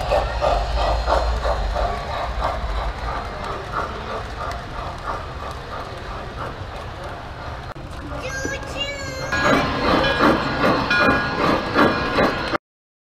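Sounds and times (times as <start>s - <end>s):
model steam train chuffing: 0.0s - 12.6s
rumble of wheels and motor: 0.0s - 12.6s.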